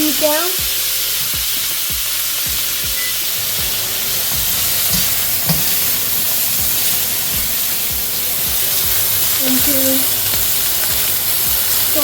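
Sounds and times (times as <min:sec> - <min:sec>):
ribs sizzling in a wok: 0:00.0 - 0:12.0.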